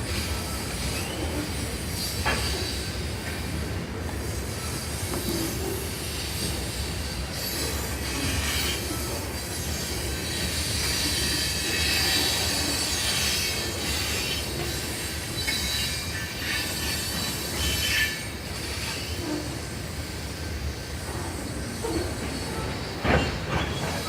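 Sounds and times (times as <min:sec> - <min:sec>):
freight train rumbling: 0:00.0 - 0:24.0
train wheel squeal: 0:00.0 - 0:24.0.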